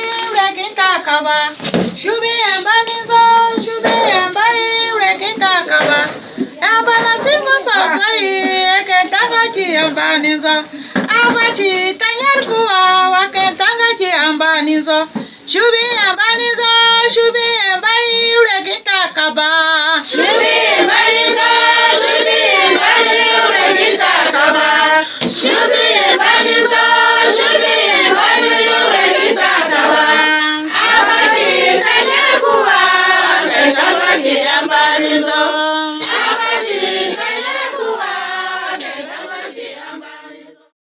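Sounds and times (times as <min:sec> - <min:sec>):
group of voices singing: 0:00.0 - 0:40.7.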